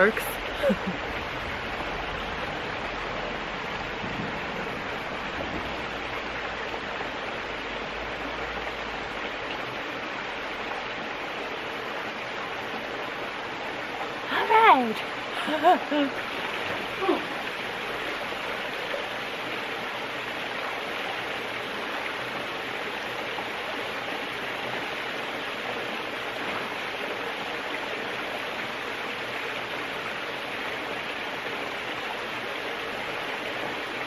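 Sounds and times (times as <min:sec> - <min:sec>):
creek water over rocks: 0:00.0 - 0:34.0.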